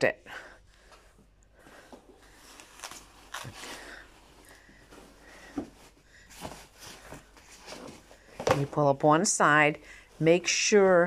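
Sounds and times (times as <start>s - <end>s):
fabric rustling: 1.6s - 11.0s.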